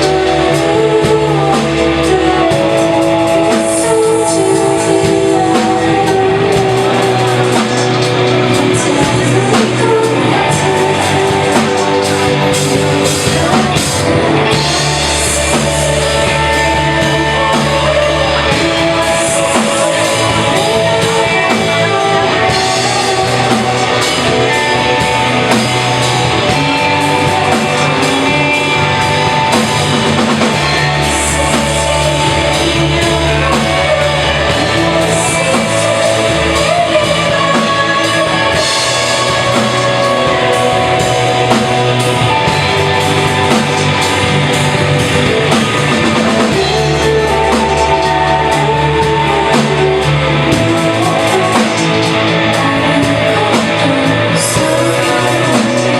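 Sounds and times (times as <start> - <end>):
drum kit beat: 0.0 - 55.9
electric guitars: 0.0 - 55.9.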